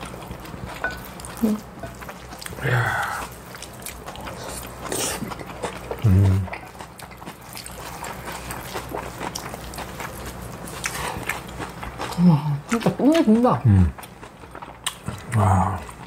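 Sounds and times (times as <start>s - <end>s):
chewing and mouth noises: 0.0s - 16.0s
low hummed mmm: 0.0s - 16.0s.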